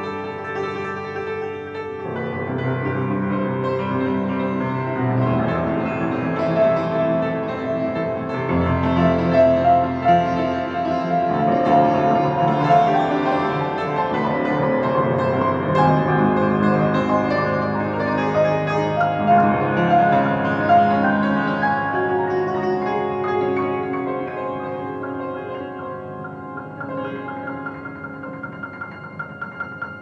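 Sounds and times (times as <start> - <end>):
solo piano piece: 0.0 - 30.0.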